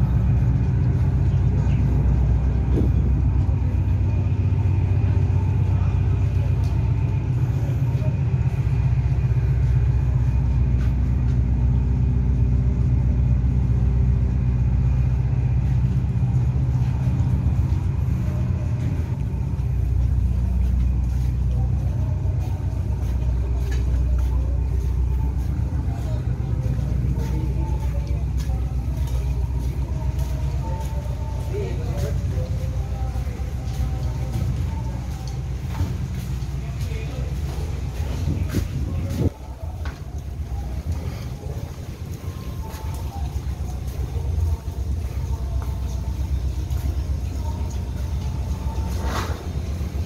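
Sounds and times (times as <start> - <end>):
faint voices: 0.0 - 50.0
low rumble: 0.0 - 50.0.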